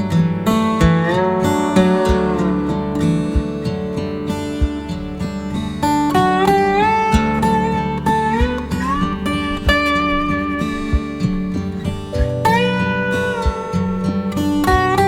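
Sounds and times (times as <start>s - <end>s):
low accompaniment: 0.0s - 15.0s
sliding guitar melody: 0.0s - 15.0s.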